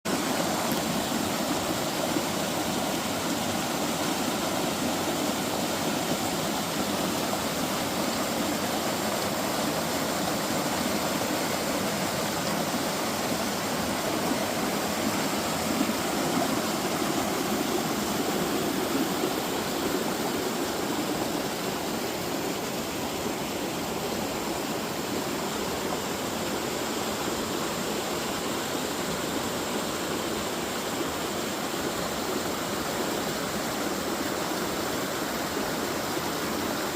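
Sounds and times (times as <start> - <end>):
mountain stream rushing water: 0.1 - 36.9.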